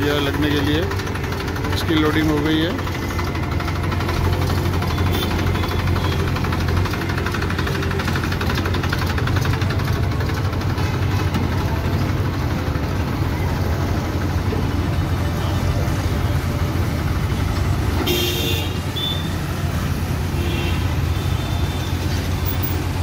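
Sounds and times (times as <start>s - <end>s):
backhoe loader engine running: 0.0s - 23.0s
diesel tractor engine idling: 0.0s - 23.0s.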